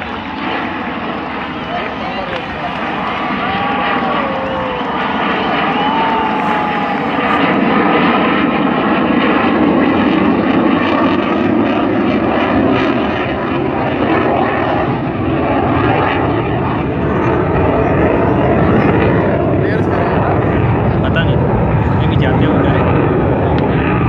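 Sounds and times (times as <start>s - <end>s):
fighter jet engine roaring: 0.0s - 24.0s.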